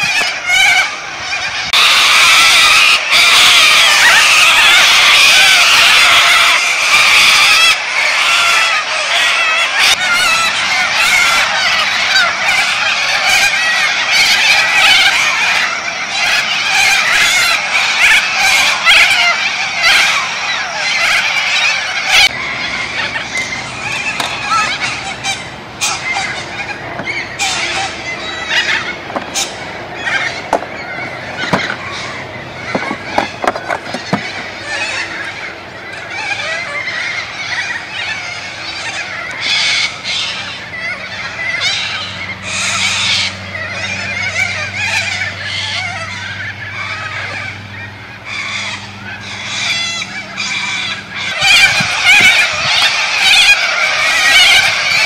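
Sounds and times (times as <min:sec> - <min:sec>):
flock of birds calling: 0:00.0 - 0:55.0.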